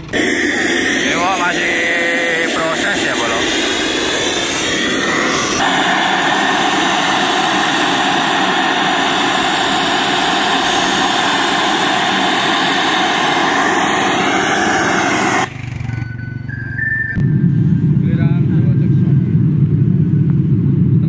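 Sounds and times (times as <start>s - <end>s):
loud test noise through speakers: 0.0s - 21.0s.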